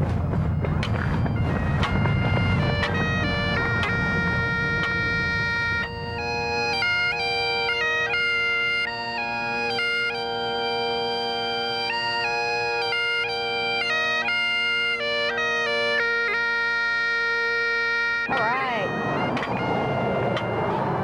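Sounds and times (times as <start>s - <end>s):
bagpipes playing: 0.0s - 21.0s.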